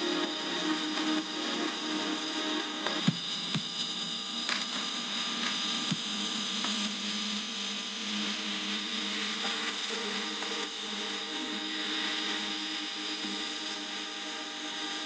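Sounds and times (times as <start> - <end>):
laser welding machine whirring: 0.0 - 15.0.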